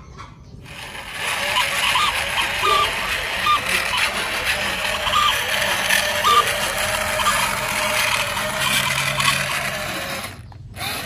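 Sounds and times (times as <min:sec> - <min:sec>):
toy motor and gears whirring: 0:00.6 - 0:11.0.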